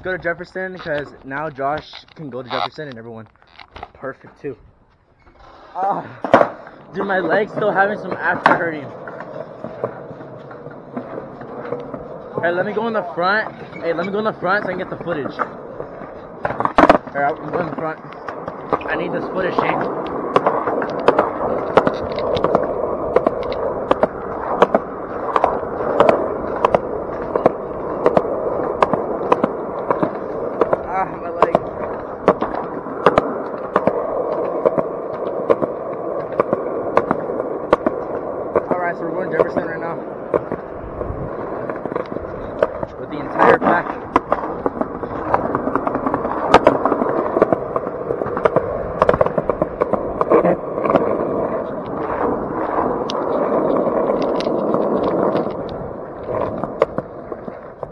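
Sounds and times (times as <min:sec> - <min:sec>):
skateboard wheels clacking over joints: 0:00.0 - 0:57.9
skateboard wheels rumbling on concrete: 0:00.0 - 0:57.9.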